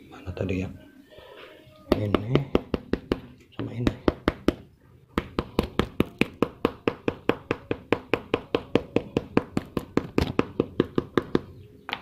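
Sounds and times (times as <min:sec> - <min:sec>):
rapid tapping on rubber sole: 0:01.9 - 0:12.0.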